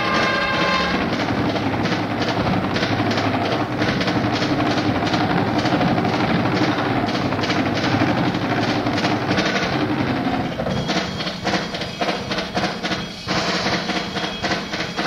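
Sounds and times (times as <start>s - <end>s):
drum kit solo: 0.0s - 4.3s, 4.9s - 15.0s.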